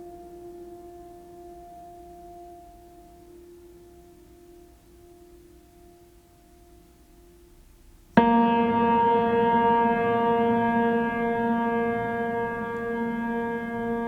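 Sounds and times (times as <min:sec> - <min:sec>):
faint steady tone: 0:00.0 - 0:14.0.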